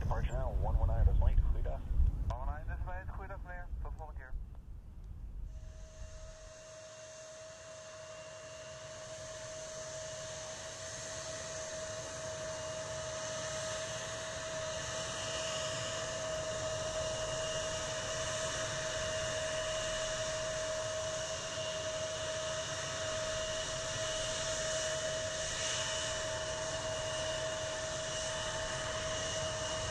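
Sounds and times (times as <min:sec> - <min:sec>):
jet engines whining on landing: 0:00.0 - 0:04.2, 0:05.4 - 0:29.9.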